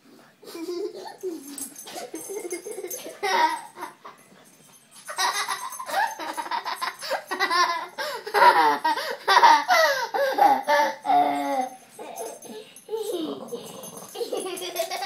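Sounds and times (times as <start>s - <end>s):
child laughing: 0.4s - 4.1s, 5.2s - 13.5s, 14.1s - 15.0s.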